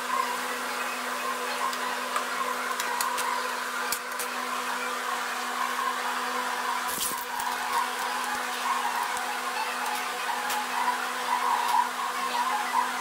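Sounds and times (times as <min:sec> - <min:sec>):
motor hum with hiss: 0:00.0 - 0:13.0.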